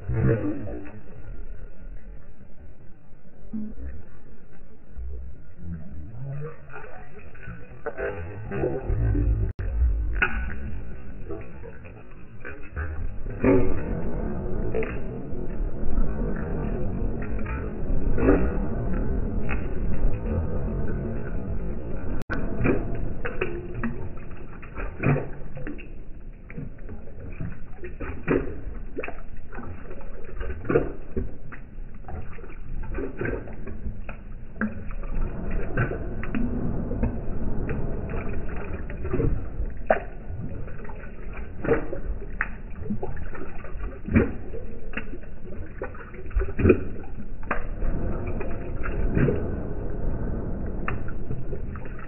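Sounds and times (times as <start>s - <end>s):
dog lapping water: 0.0s - 52.0s.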